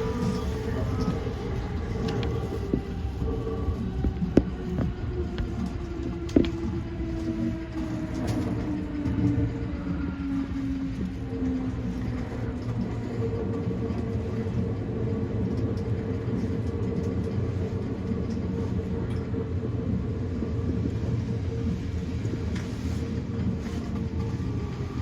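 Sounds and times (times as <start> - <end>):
train drive hum: 0.0 - 25.0
train wheels rumbling on track: 0.0 - 25.0.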